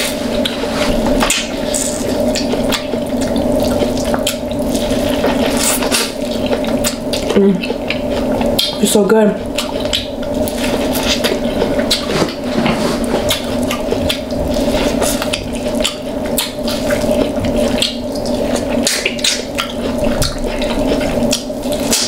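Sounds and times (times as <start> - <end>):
steady low hum: 0.0 - 22.0
wet chewing and mouth sounds: 0.0 - 22.0.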